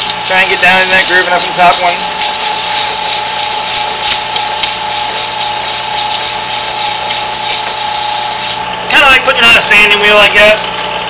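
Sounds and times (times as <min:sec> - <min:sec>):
sandpaper hissing on metal: 0:00.0 - 0:10.0
drill press motor hum: 0:00.0 - 0:11.0.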